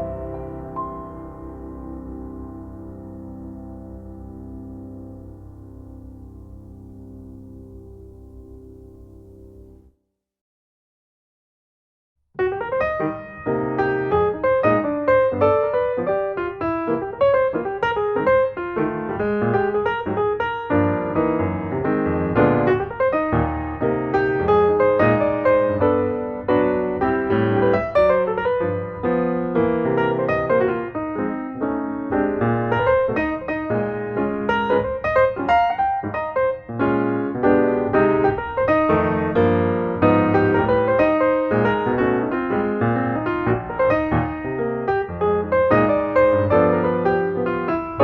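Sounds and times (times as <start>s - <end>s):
piano music: 0.0s - 9.9s, 12.4s - 48.0s.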